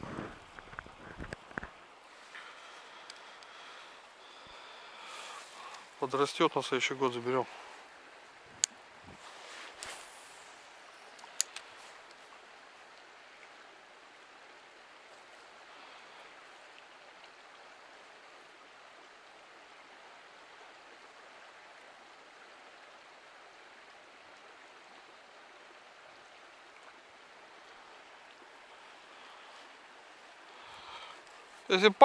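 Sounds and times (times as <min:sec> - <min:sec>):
river flowing: 0:00.0 - 0:32.0.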